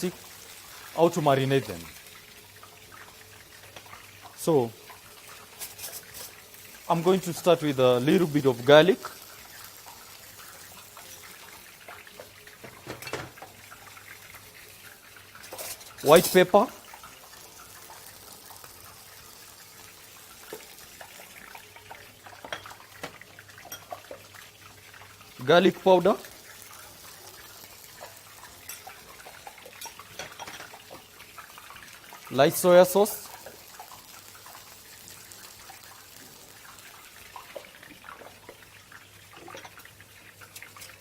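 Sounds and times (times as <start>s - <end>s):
chicken sizzling on a grill: 0.0s - 41.0s.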